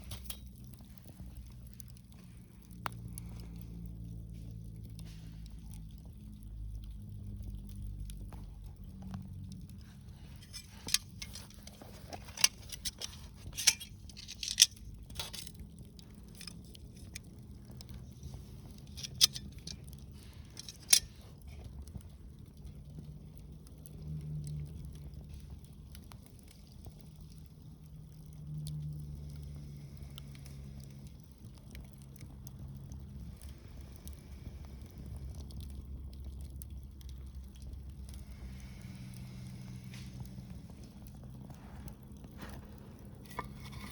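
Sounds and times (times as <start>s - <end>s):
low steady fire rumble: 0.0s - 43.9s
wood fire crackling and popping: 0.0s - 43.9s.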